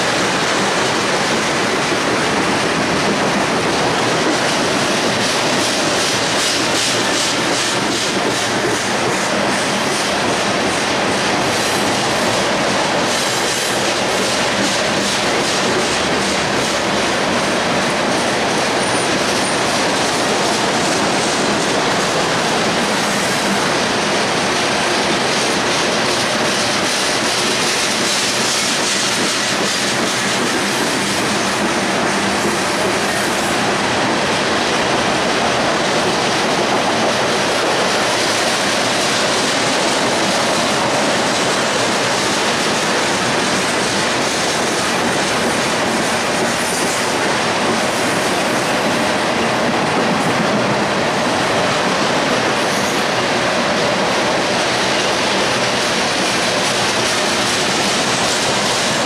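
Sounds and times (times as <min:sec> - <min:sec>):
freight train wheels on rail: 0:00.0 - 0:59.0.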